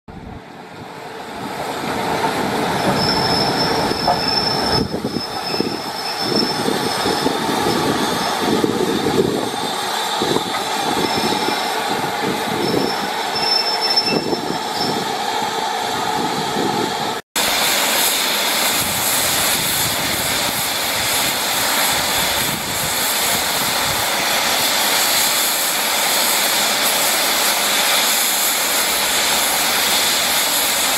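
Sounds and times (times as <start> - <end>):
steam hissing: 1.2 - 30.9
train wheels squealing and clanking: 1.9 - 16.7, 17.5 - 30.9.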